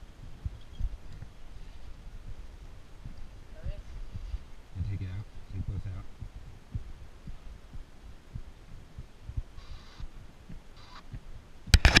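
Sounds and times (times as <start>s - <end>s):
low thumps and rumble: 0.0s - 12.0s.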